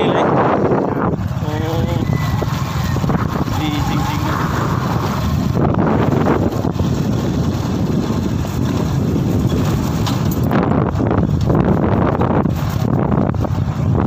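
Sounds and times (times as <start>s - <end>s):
vehicle running noise: 0.0s - 14.0s
wind buffeting microphone: 0.0s - 14.0s.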